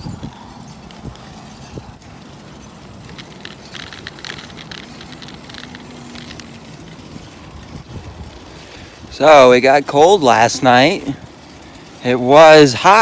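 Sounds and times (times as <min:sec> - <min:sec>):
bicycle rolling: 0:00.0 - 0:13.0
rapid light ticking: 0:00.6 - 0:13.0.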